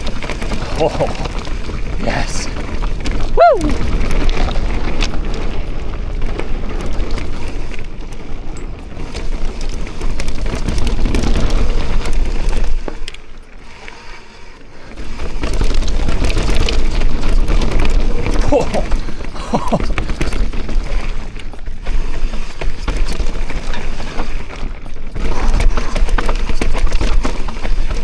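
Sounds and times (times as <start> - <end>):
bike tyres rumbling on dirt: 0.0 - 28.0.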